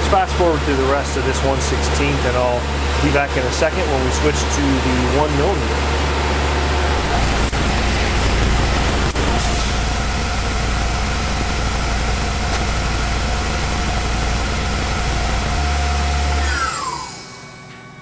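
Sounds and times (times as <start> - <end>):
coolant nozzles hissing: 0.0 - 17.4
mill spindle whine: 0.0 - 18.0.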